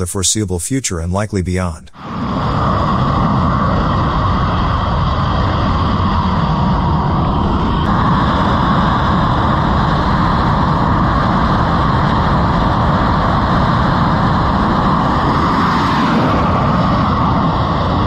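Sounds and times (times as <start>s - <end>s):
loud jet engine noise: 0.0s - 18.0s.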